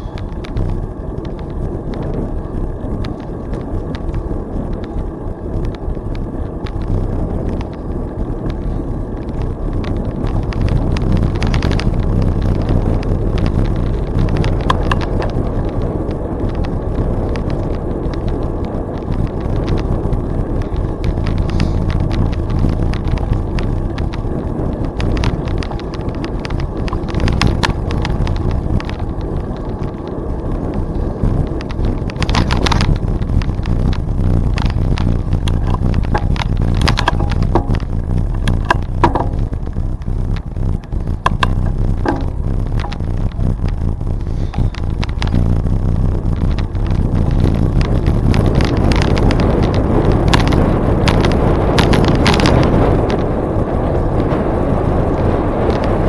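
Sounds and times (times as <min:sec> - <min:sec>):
bicycle rolling noise: 0:00.0 - 0:56.0
wind buffeting microphone: 0:00.0 - 0:56.0.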